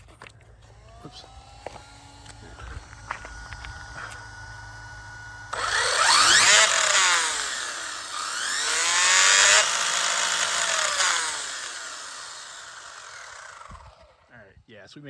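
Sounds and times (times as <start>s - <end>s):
rc car motor whine: 0.6s - 14.4s.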